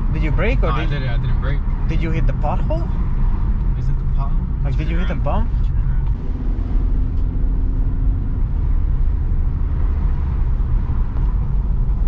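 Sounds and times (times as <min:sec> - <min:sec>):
road and tyre rumble in car cabin: 0:00.0 - 0:12.0.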